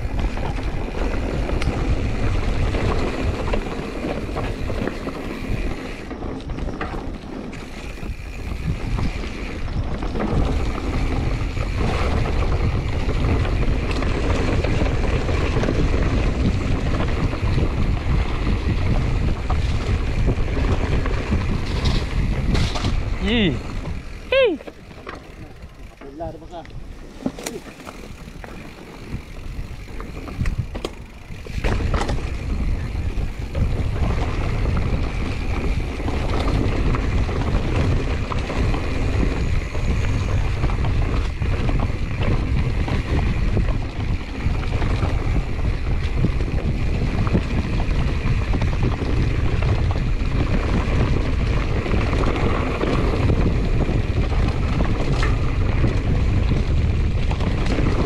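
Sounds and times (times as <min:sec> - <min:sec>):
bike clicks and rattles: 0:00.0 - 0:58.0
wind buffeting microphone: 0:00.0 - 0:58.0.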